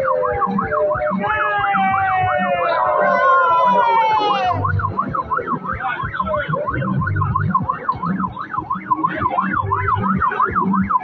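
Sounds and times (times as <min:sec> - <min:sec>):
electronic siren yelping: 0:00.0 - 0:11.0
low thumping beat: 0:00.0 - 0:11.0.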